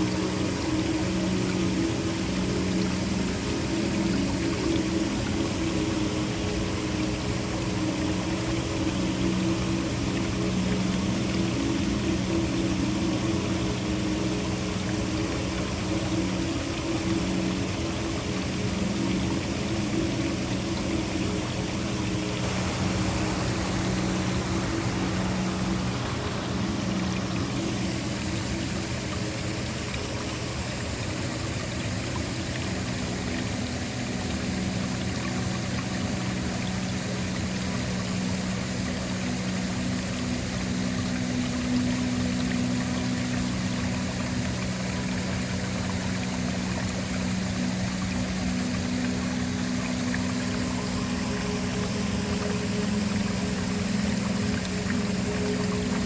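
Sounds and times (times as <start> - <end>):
low ambient drone: 0.0 - 56.0
waterfall rushing: 0.0 - 56.0.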